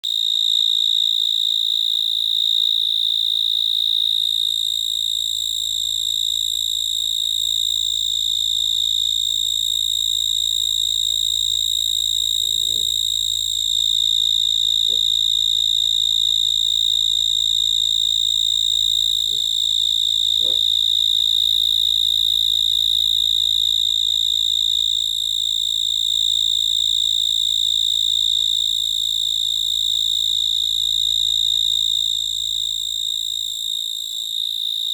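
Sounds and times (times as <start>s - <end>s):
cricket trilling: 0.0s - 34.9s.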